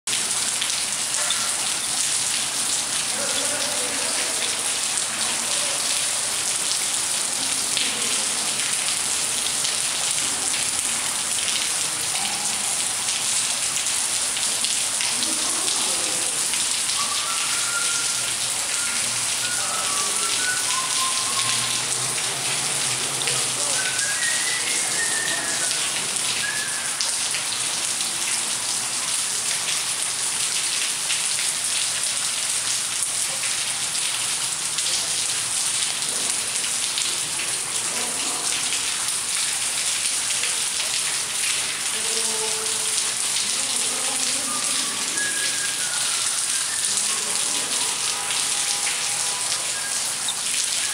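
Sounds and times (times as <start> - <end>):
water pouring and splashing: 0.1 - 50.9.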